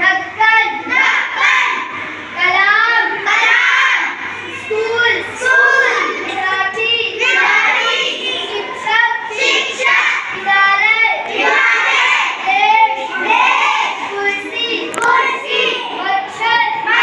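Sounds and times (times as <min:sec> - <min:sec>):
children chanting in sing-song: 0:00.0 - 0:17.0.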